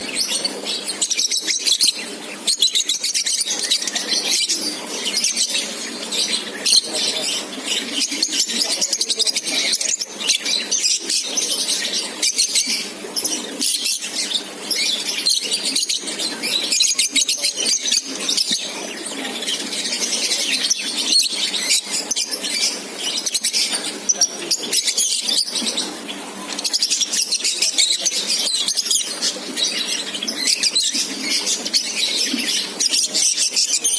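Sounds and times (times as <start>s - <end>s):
birds chirping and squeaking: 0.0s - 33.9s.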